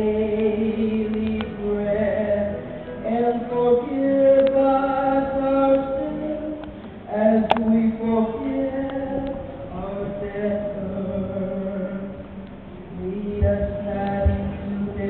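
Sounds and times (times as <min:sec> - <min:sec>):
acoustic guitar: 0:00.0 - 0:15.0
group singing slow song: 0:00.0 - 0:15.0.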